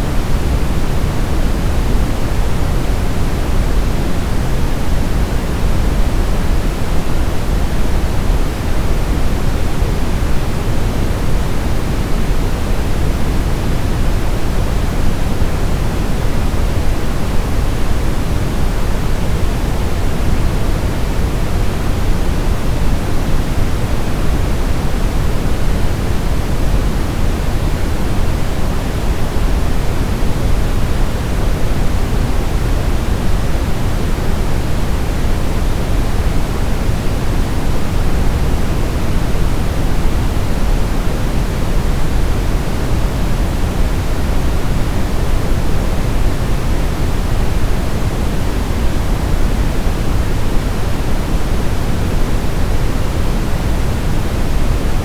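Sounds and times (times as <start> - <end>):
deep white noise hiss: 0.0 - 55.0.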